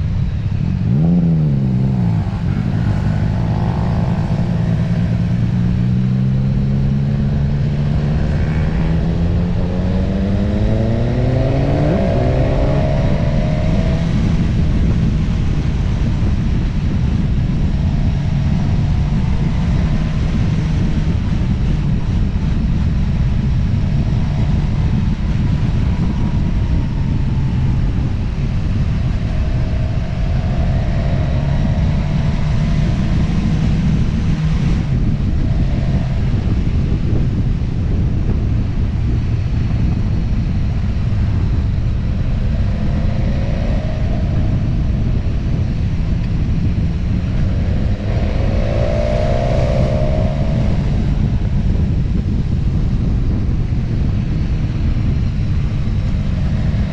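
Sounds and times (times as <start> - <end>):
vehicle engine accelerating: 0.0 - 56.9
wind and road noise: 0.0 - 56.9.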